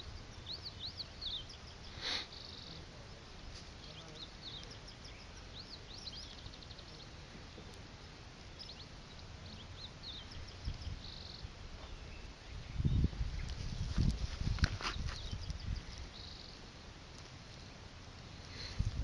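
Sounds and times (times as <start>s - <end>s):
outdoor background hiss: 0.0s - 19.0s
small birds chirping: 0.0s - 19.0s.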